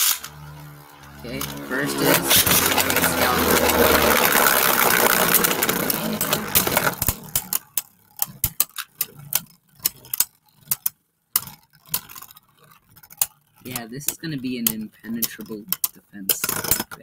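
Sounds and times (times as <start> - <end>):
spinning tops clicking together: 0.0 - 17.0
spinning tops rattling: 0.0 - 17.0.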